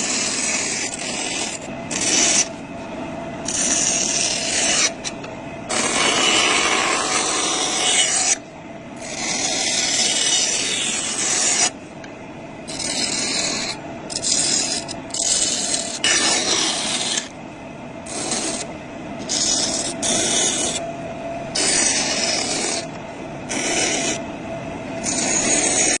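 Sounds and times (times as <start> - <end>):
harsh rasping metal cutting: 0.0 - 2.5, 3.4 - 5.1, 5.7 - 8.4, 9.0 - 11.8, 12.7 - 17.3, 18.0 - 20.8, 21.5 - 24.2, 25.0 - 26.0
steady hum: 0.0 - 26.0.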